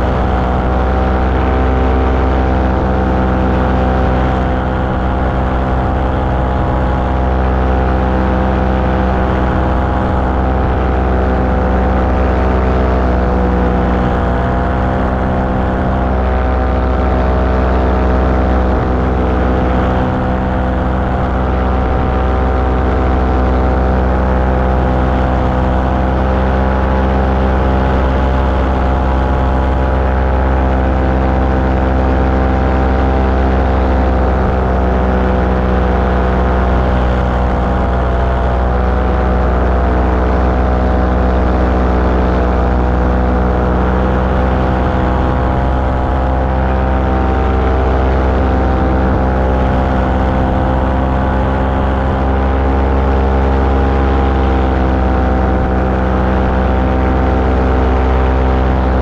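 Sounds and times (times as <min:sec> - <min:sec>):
small aircraft engine and propeller: 0:00.0 - 0:59.0.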